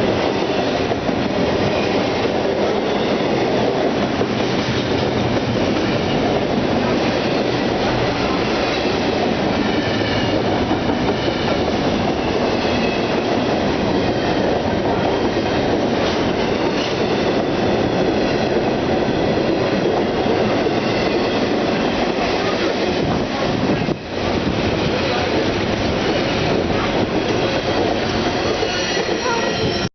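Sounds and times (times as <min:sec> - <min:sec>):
freight train rolling past: 0:00.0 - 0:29.9.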